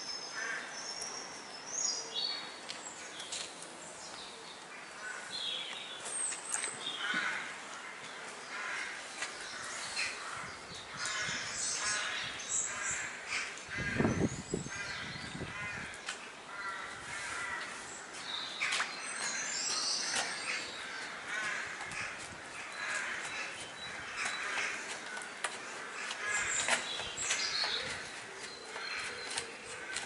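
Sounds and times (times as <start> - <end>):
birds making harsh calls: 4.8 - 30.0.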